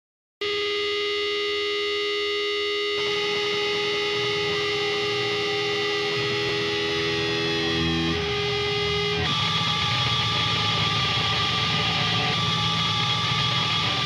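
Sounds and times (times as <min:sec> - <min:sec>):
electric guitar feedback drone: 0:00.4 - 0:14.0.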